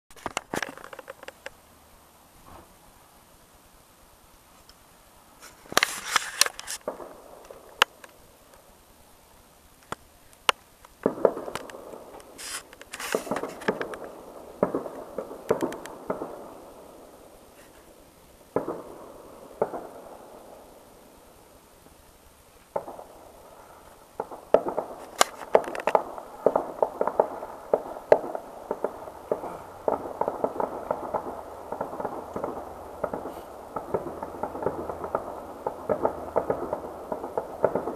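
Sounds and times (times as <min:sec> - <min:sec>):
distant fireworks bangs and crackling: 0:00.1 - 0:03.0, 0:05.4 - 0:37.9.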